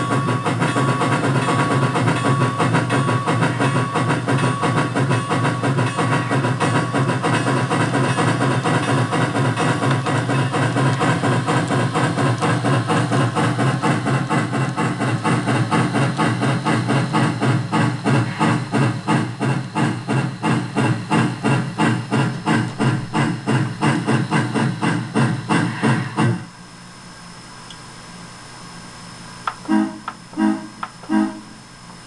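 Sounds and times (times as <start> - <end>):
steam locomotive hissing chuffs: 0.0 - 26.7, 29.5 - 32.0.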